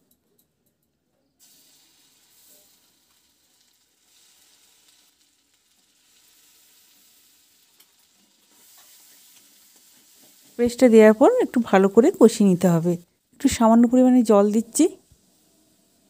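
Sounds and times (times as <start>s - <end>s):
spice paste sizzling in butter: 1.4s - 16.0s.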